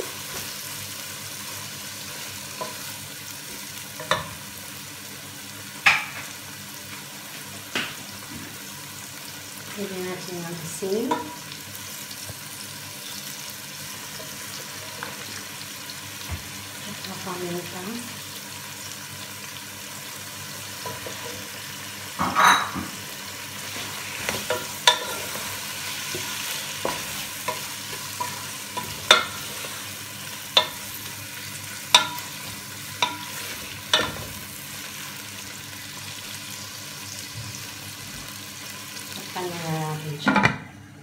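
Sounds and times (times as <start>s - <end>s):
food sizzling in a pot: 0.0s - 40.3s.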